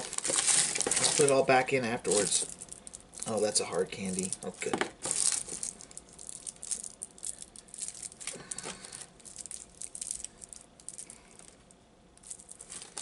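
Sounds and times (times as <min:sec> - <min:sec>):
plastic candy wrappers crinkling: 0:00.0 - 0:13.0.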